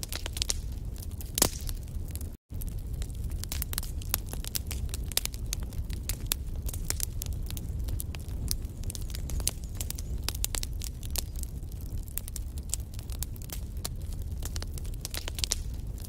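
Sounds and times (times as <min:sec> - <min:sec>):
sharp pops of fire: 0:00.0 - 0:16.0
wood fire crackling: 0:00.0 - 0:16.0.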